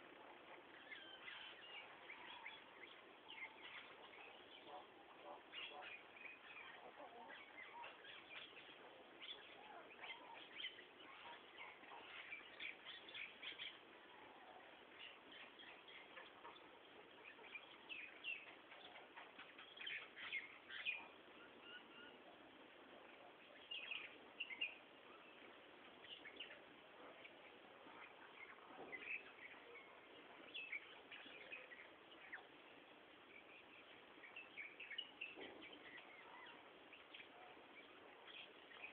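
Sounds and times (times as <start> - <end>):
background hiss: 0.0 - 38.9
faint bird chirps: 0.0 - 38.9.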